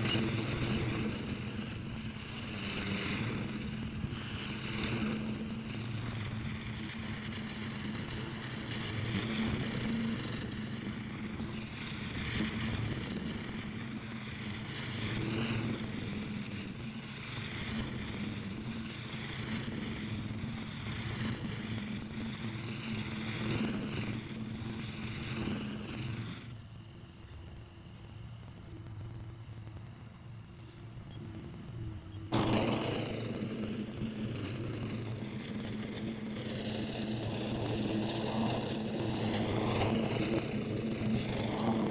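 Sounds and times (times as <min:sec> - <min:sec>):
mower engine cutting weeds: 0:00.0 - 0:26.9, 0:27.8 - 0:41.9.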